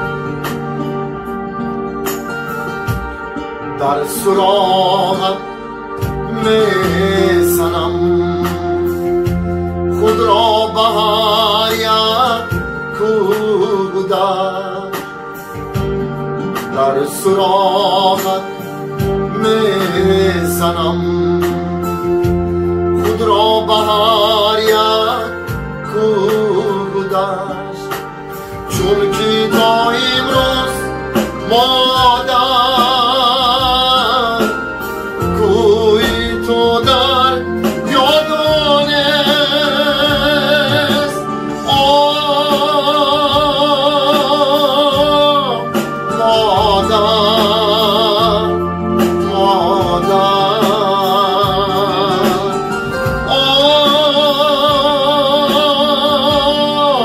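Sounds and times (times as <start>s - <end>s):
electronic keyboard song: 0.0s - 57.0s
wavering lead melody: 0.0s - 57.0s.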